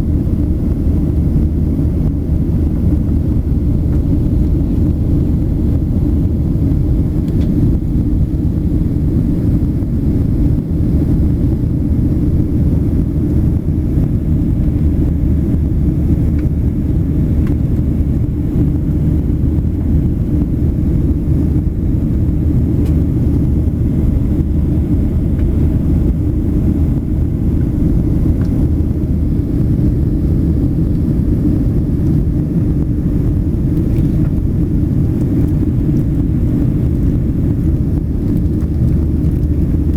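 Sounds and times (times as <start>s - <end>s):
airplane cabin engine drone: 0.0s - 39.9s
constant low hum: 0.0s - 39.9s.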